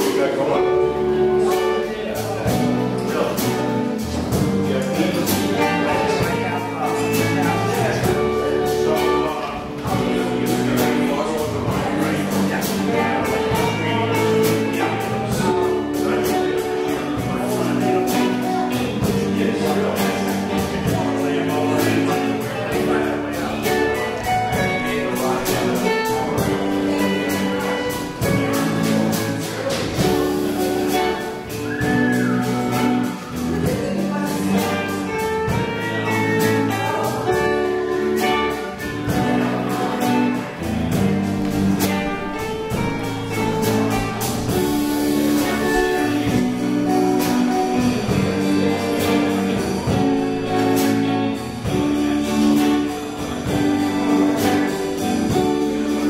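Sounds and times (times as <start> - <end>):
drum kit steady beat: 0.0 - 56.0
electric bass: 0.0 - 56.0
electric guitars: 0.0 - 56.0.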